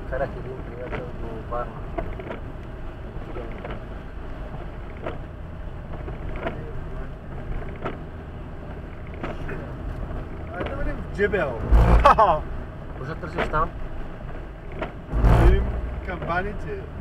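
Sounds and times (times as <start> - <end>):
car cabin and tyre noise on wet road: 0.0 - 17.0
windscreen wipers sweeping: 0.1 - 17.0.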